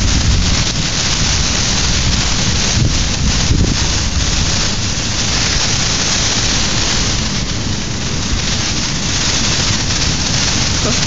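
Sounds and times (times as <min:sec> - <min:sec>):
strong wind on microphone: 0:00.0 - 0:11.0.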